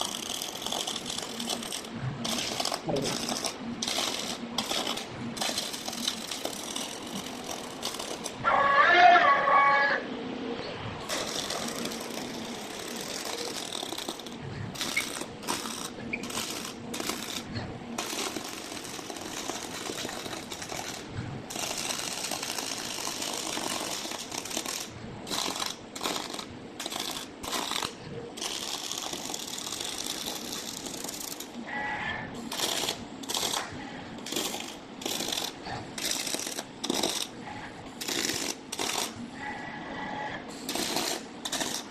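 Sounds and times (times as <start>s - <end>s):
welding arc crackling and hissing: 0.0s - 9.1s, 11.0s - 39.3s, 40.5s - 41.9s.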